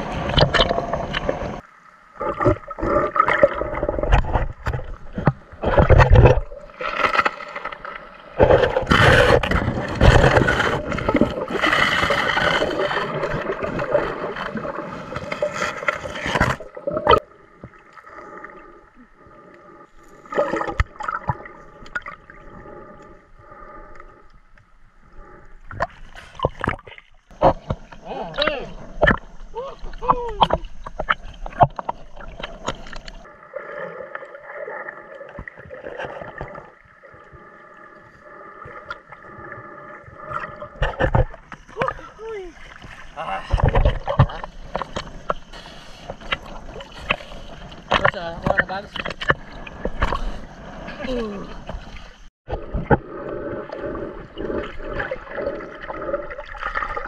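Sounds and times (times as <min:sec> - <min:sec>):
water splashing: 0:00.0 - 0:24.2, 0:25.2 - 0:57.0
muffled underwater rushing: 0:00.0 - 0:57.0.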